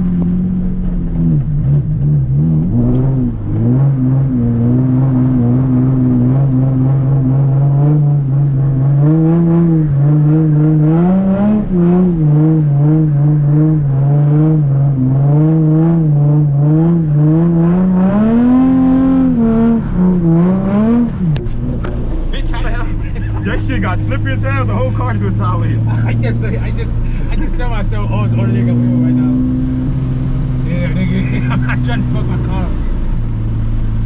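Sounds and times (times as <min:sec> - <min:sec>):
car engine revving under load: 0:00.0 - 0:34.0.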